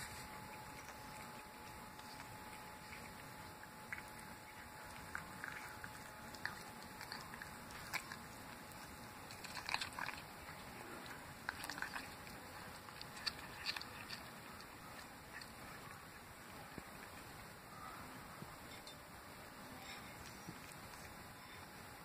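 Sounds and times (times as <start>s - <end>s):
cat chewing and licking: 0.0s - 22.0s.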